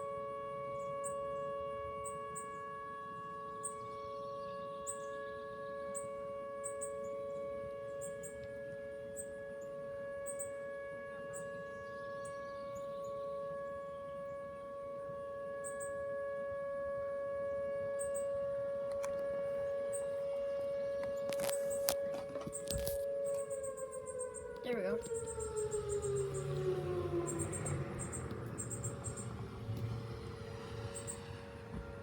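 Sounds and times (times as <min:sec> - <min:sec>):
two-note warning siren: 0:00.0 - 0:32.0.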